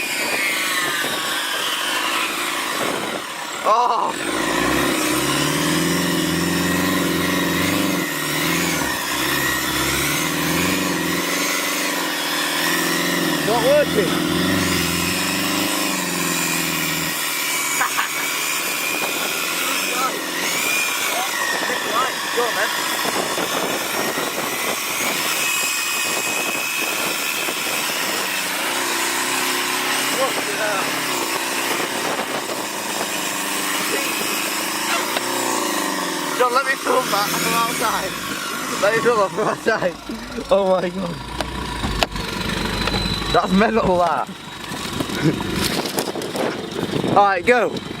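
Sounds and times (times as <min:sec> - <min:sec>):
vehicle engine revving: 0:00.0 - 0:48.0.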